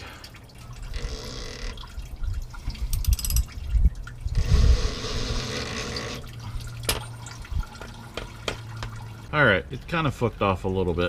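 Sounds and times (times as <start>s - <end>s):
fuel dripping into bucket: 0.0s - 10.7s.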